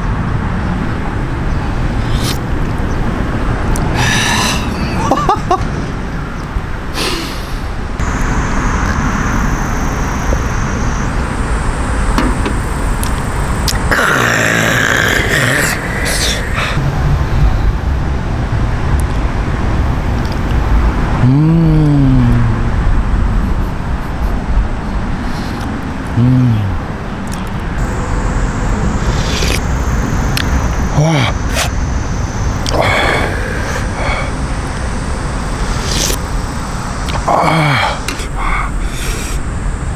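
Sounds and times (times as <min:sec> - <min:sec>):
rising and falling hums: 0:00.0 - 0:06.9, 0:07.8 - 0:39.9
low rumbling background noise: 0:00.0 - 0:39.9.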